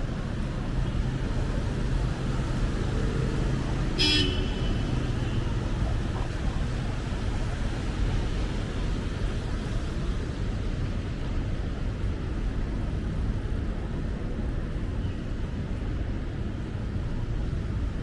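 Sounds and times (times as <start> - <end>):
city traffic noise: 0.0 - 18.0.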